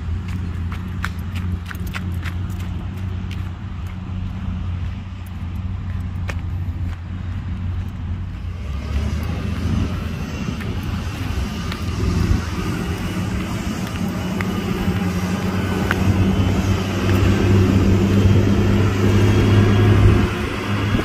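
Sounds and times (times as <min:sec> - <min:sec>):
heavy diesel engine running: 0:00.0 - 0:21.0
noisy rush: 0:00.0 - 0:21.0.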